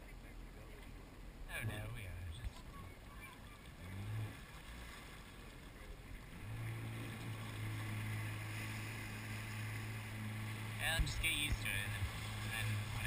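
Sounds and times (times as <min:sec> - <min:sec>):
faint wind noise: 0:00.0 - 0:13.0
jet ski engine running: 0:00.0 - 0:13.0.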